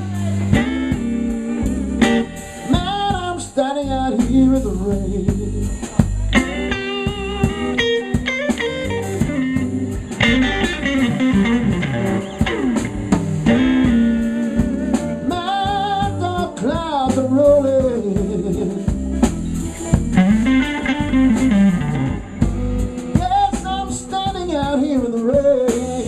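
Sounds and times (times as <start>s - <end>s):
electric lead guitar fills: 0.0s - 24.8s
electric blues band playing: 0.0s - 26.0s.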